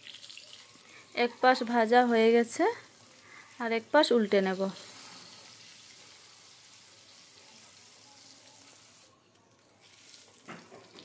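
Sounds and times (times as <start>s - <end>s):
fish sizzling in hot oil: 0.0s - 9.1s, 9.8s - 11.0s.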